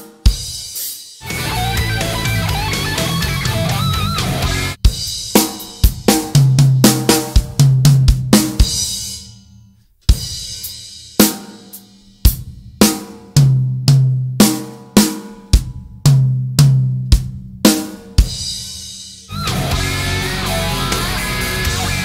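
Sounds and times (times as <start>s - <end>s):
drum kit strikes: 0.0s - 22.0s.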